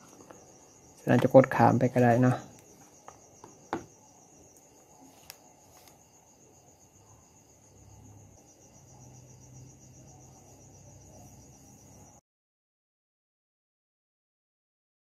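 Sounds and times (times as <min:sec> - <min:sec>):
insects trilling: 0:00.0 - 0:12.2.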